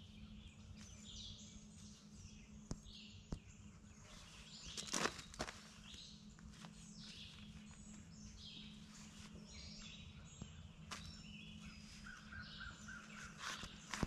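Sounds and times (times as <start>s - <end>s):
birdsong chirping: 0.0s - 14.0s
low steady hum: 0.0s - 14.0s.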